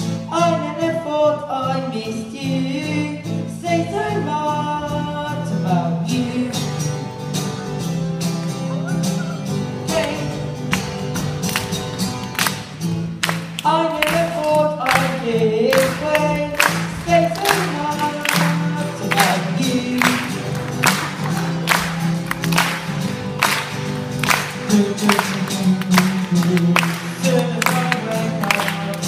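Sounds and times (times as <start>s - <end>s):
bass and guitar: 0.0s - 29.0s.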